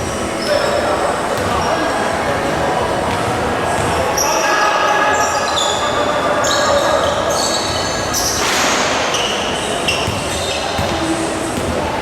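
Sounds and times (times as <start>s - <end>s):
crowd noise: 0.0s - 12.0s
sneakers squeaking on court: 0.1s - 2.1s, 3.0s - 12.0s.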